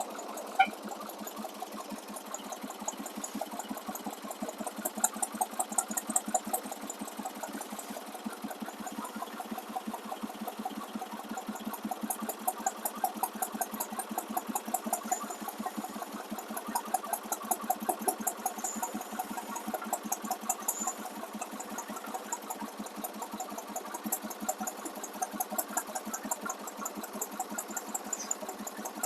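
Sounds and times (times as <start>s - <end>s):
backhoe engine running: 0.0s - 29.0s.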